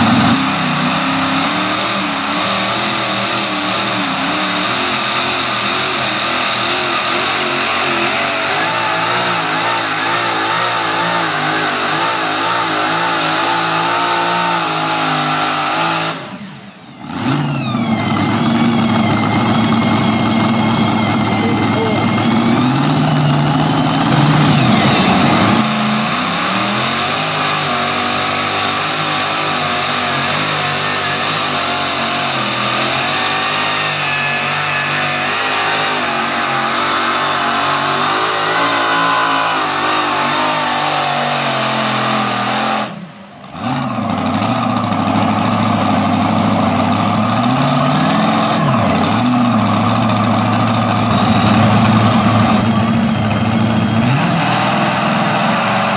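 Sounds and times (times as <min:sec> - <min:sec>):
tractor engines at high revs: 0:00.0 - 0:55.9.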